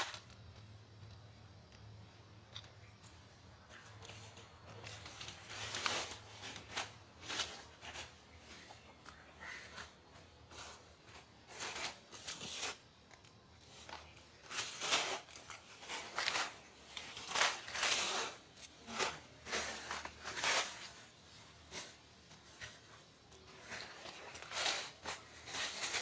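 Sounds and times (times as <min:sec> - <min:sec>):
rustling and scraping: 0:00.0 - 0:26.0.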